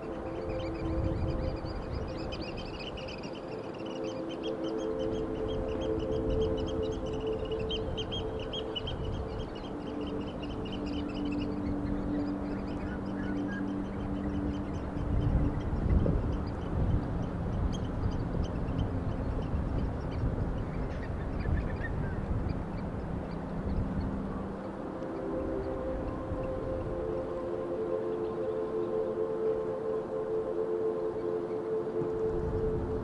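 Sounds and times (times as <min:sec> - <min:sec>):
ambient music chords: 0:00.0 - 0:33.0
birds chirping: 0:00.0 - 0:33.0
steady rushing noise: 0:00.0 - 0:33.0.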